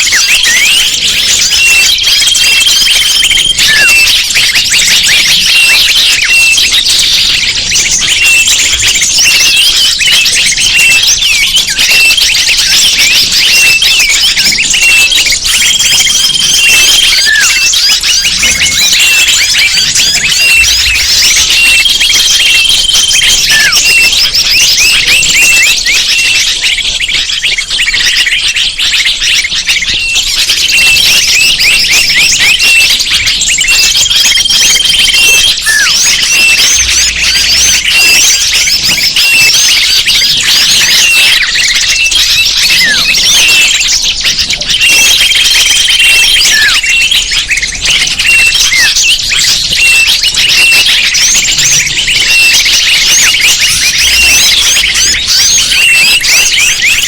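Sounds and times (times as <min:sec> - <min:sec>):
songbirds chirping chorus: 0:00.0 - 0:57.0.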